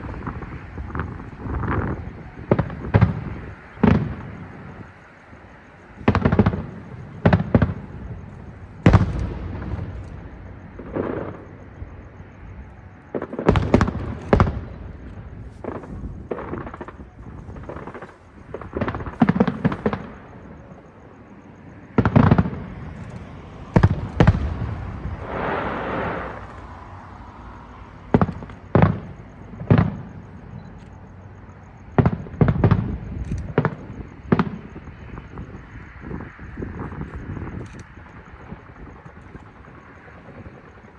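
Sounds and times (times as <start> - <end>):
fireworks crackling: 0.0 - 5.0, 5.6 - 20.6, 21.9 - 30.4, 32.0 - 40.9
fireworks booming overhead: 0.0 - 40.9.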